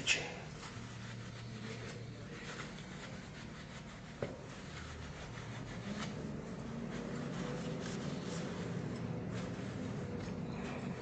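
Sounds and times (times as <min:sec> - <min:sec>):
paper towel rubbing on metal: 0:00.0 - 0:11.0.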